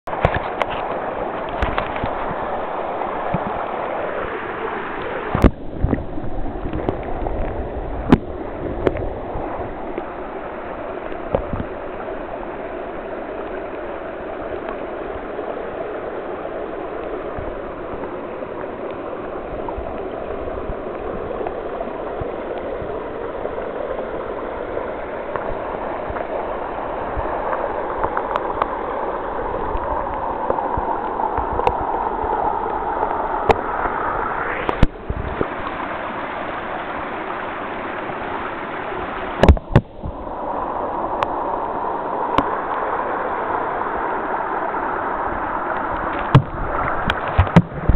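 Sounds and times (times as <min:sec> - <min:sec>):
stream water rushing underwater: 0:00.0 - 0:47.9.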